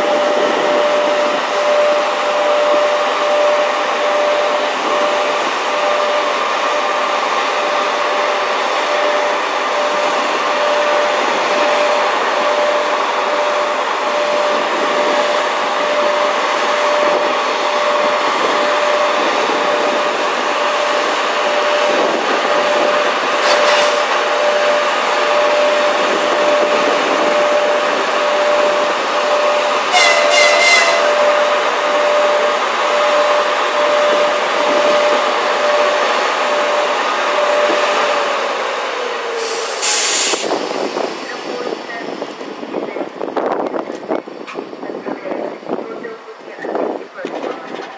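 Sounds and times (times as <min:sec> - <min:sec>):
electric locomotive humming and whining: 0:00.0 - 0:47.9.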